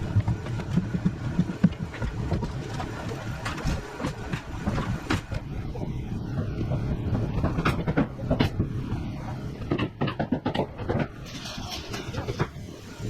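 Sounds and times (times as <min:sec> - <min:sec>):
steady low rumble: 0:00.0 - 0:09.8, 0:11.1 - 0:13.0.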